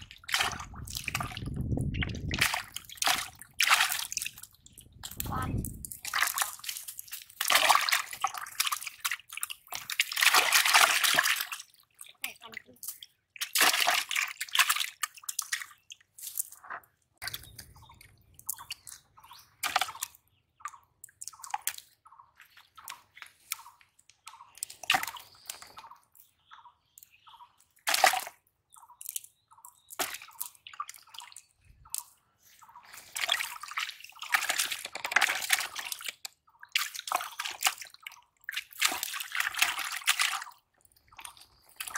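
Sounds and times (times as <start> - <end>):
fish splashing in a bucket: 0.0 - 12.2, 12.8 - 16.6, 17.2 - 22.0, 22.7 - 26.0, 27.8 - 41.9.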